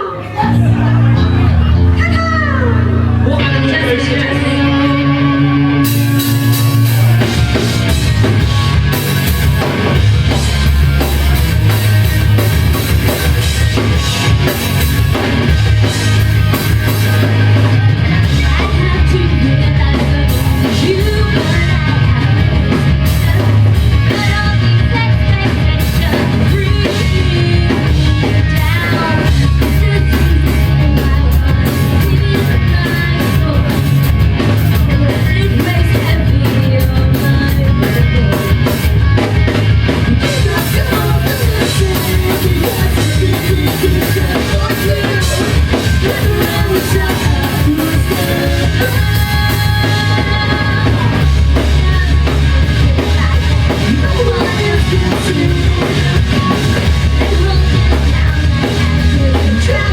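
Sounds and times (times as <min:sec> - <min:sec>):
person singing: 0:00.0 - 0:10.4, 0:12.7 - 0:39.3, 0:40.1 - 0:59.9
live rock band playing: 0:00.0 - 0:59.9.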